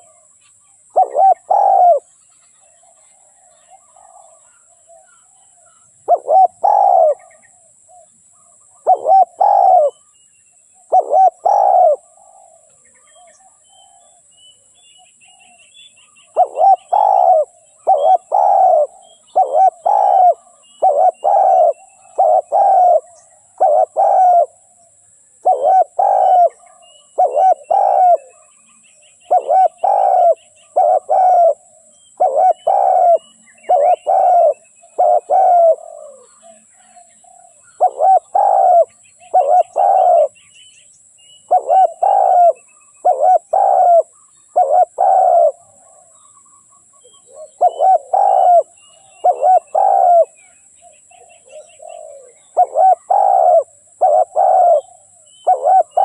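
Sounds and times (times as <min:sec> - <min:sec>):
dove cooing: 0:00.0 - 0:00.3, 0:00.9 - 0:10.1, 0:10.8 - 0:14.2, 0:16.2 - 0:40.4, 0:41.4 - 0:46.3, 0:47.0 - 0:56.0
small birds chirping faintly: 0:00.0 - 0:56.0.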